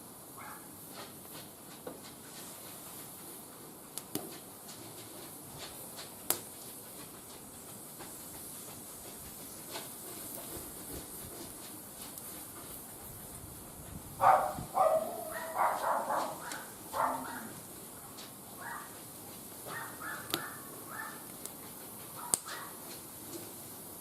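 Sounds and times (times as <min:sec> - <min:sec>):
wood fire hissing and crackling: 0:00.0 - 0:24.0.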